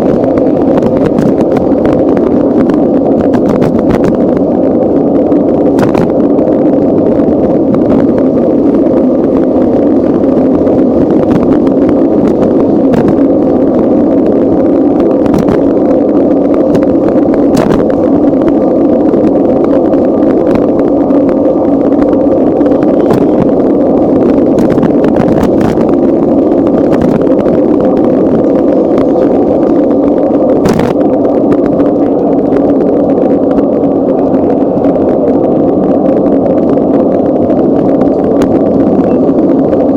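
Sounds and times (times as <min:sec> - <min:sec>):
bicycle riding noise: 0:00.0 - 0:39.9.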